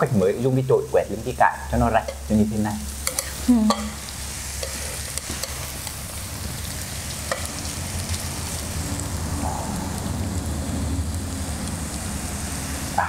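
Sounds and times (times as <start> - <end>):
meat sizzling on grill plate: 0.0 - 13.0.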